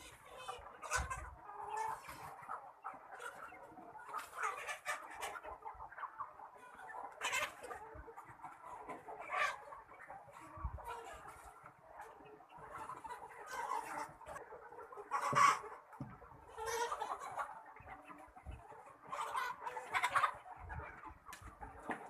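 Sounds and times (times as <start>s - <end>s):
chicken squawks: 0.0s - 22.0s
chickens clucking: 0.0s - 22.0s.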